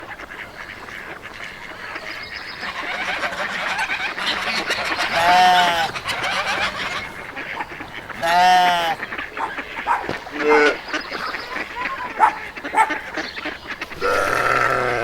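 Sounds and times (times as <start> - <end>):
loud poultry call: 0.0 - 15.0
poultry chattering: 0.0 - 15.0.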